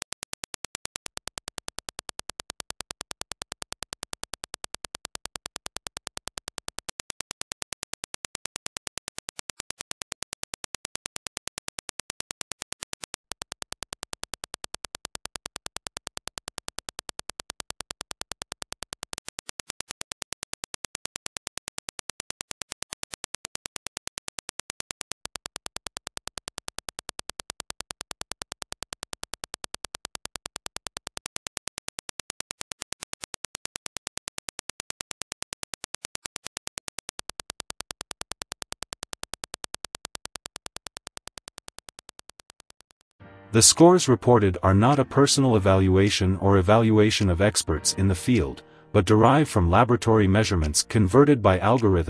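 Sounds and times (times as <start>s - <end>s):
sharp evenly spaced clicks: 0.0s - 43.2s.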